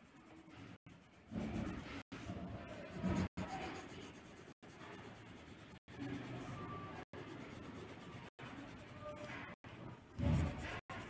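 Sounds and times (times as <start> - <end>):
marker scratching on paper: 0.0 - 9.6, 10.2 - 11.0.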